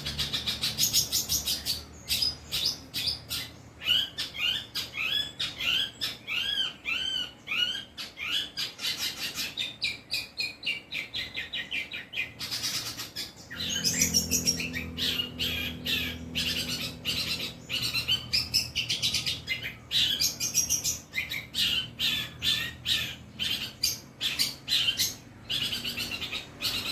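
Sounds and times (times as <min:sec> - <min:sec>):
shrike singing and trilling: 0:00.0 - 0:26.9.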